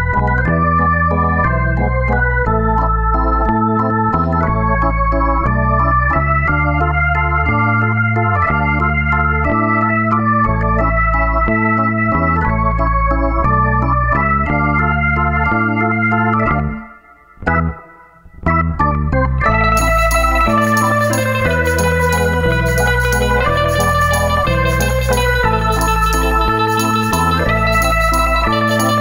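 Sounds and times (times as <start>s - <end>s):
bass line: 0.0s - 29.0s
organ-like keyboard chords: 0.0s - 29.0s.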